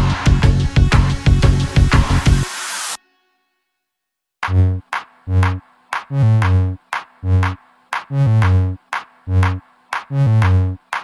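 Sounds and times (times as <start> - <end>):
electronic music with drum-machine beat: 0.0 - 2.8, 4.4 - 11.0.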